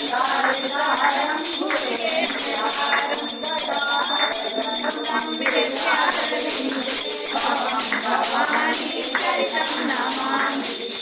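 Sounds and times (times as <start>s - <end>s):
jingling percussion beat: 0.0s - 11.0s.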